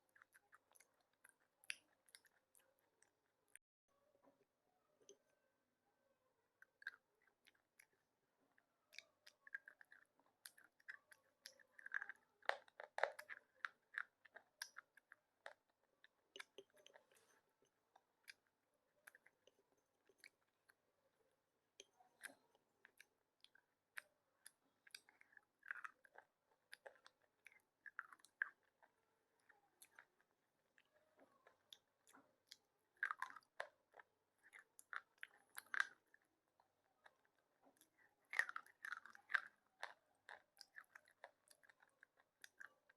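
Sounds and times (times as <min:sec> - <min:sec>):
chewing crunchy pieces: 0:00.0 - 0:03.6, 0:06.6 - 0:21.0, 0:21.7 - 0:42.9.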